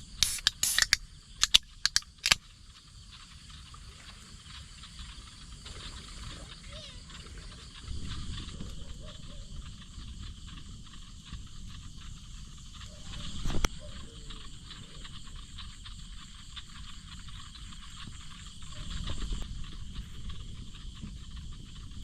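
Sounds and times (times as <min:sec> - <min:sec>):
insects and frogs chirring: 0:00.0 - 0:22.0.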